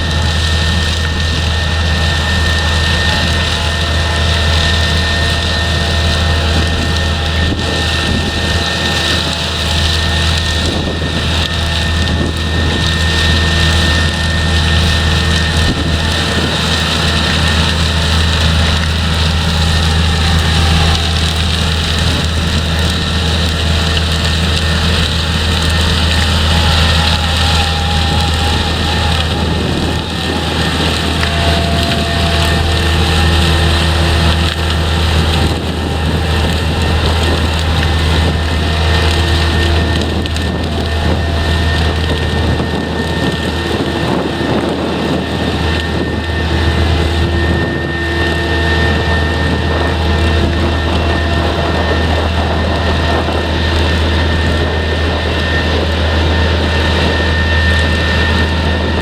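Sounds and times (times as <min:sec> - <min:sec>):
deep engine drone: 0:00.0 - 0:59.0
machinery rattling clatter: 0:00.0 - 0:59.0.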